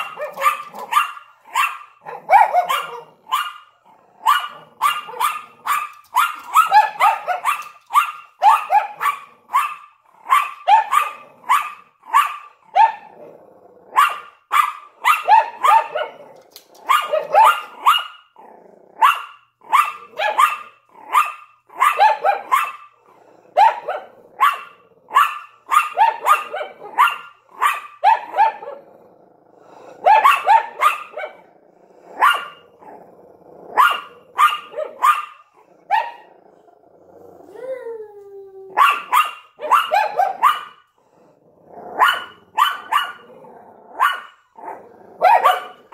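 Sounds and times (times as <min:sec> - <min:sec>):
dogs barking: 0:00.0 - 0:13.1, 0:13.9 - 0:16.2, 0:16.8 - 0:18.2, 0:19.0 - 0:28.8, 0:30.0 - 0:31.5, 0:32.2 - 0:32.6, 0:33.7 - 0:36.3, 0:38.8 - 0:40.9, 0:41.9 - 0:43.3, 0:43.9 - 0:45.9.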